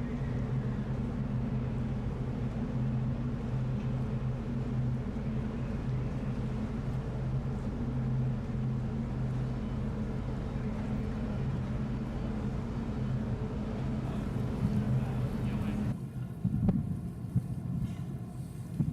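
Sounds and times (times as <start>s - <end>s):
ship engines droning: 0.0s - 18.9s.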